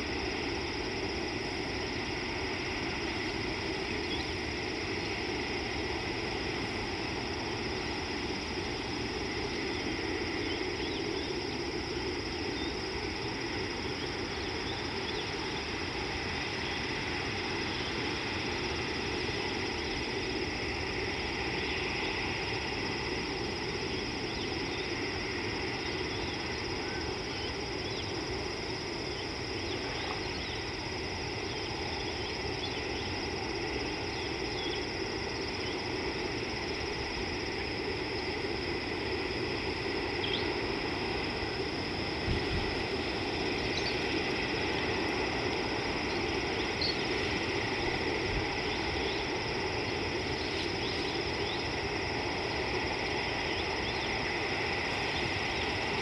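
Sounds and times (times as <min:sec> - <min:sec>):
high insect-like drone: 0:00.0 - 0:56.0.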